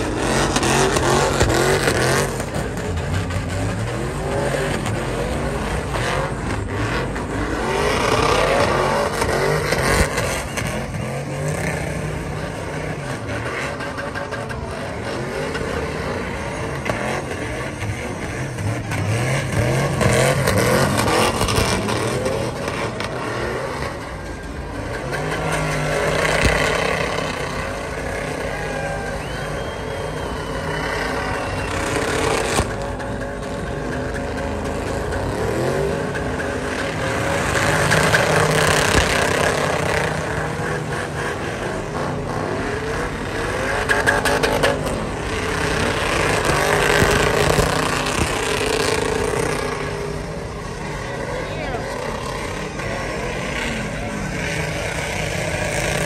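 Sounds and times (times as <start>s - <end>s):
truck engine revving hard: 0.0s - 56.0s
tyres spinning on pavement: 0.0s - 56.0s.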